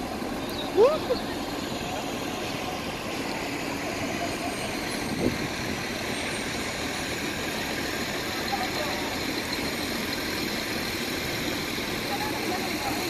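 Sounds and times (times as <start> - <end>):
bus engines and road noise: 0.0 - 13.0.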